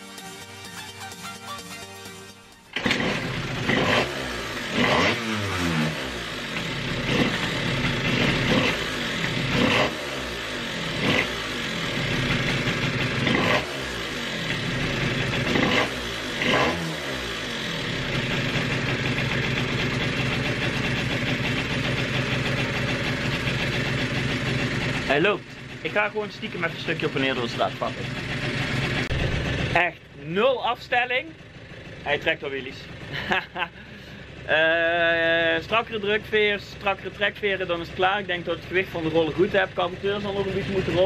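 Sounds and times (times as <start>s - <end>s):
scooter engine revving: 2.6s - 41.0s.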